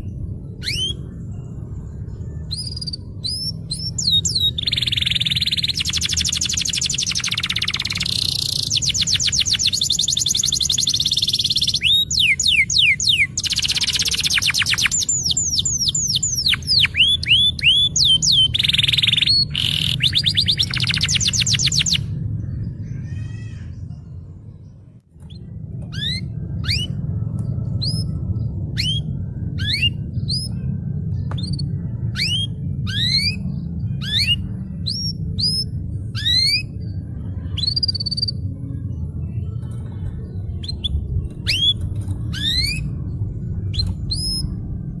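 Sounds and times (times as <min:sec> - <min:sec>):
canary singing rolling trills: 0:00.0 - 0:45.0.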